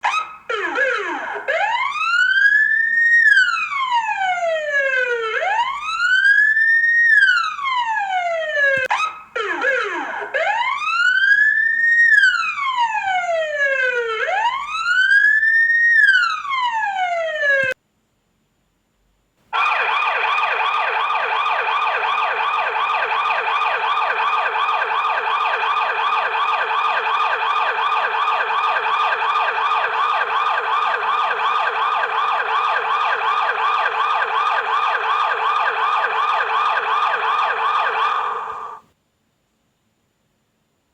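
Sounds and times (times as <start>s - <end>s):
rapid siren warble: 0.0s - 17.7s, 19.6s - 38.8s
fire engine siren wailing: 0.0s - 17.8s, 19.6s - 38.8s.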